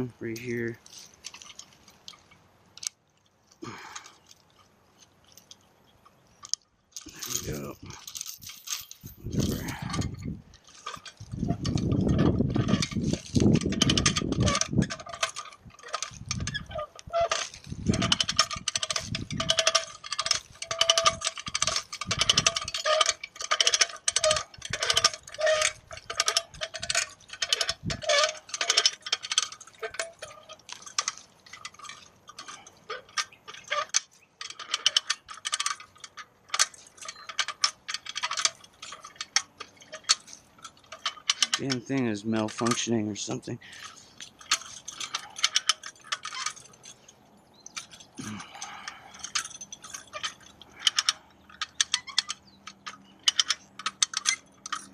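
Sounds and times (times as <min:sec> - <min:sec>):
metal chain clinking: 0:03.6 - 0:05.7, 0:06.3 - 0:54.9
winch ratchet clicking: 0:06.4 - 0:43.0, 0:43.6 - 0:54.9.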